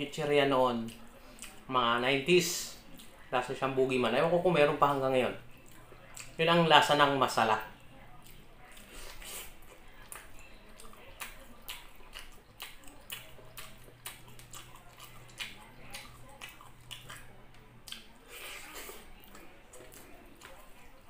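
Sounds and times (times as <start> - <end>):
person chewing with wet smacks: 0.7 - 1.7, 2.8 - 3.3, 4.6 - 21.0.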